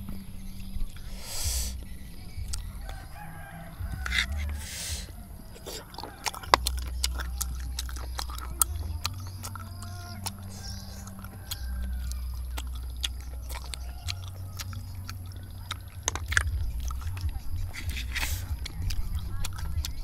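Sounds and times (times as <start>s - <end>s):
chewing: 0.0s - 20.0s
low steady rumble: 0.0s - 20.0s.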